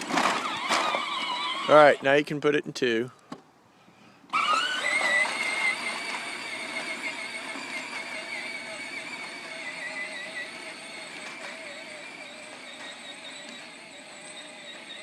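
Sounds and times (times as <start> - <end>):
toy tractor electric motor whining: 0.0 - 2.0, 4.3 - 15.0.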